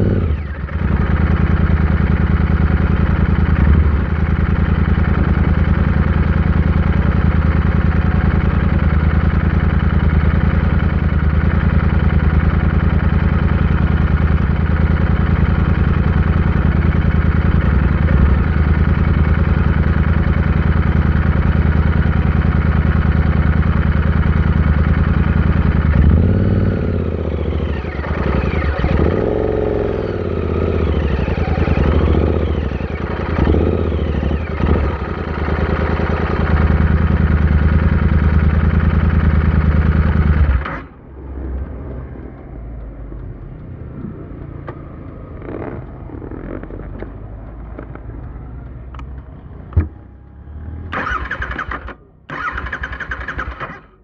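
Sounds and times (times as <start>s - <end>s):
motorcycle engine revving: 0.0s - 41.7s, 43.7s - 54.0s.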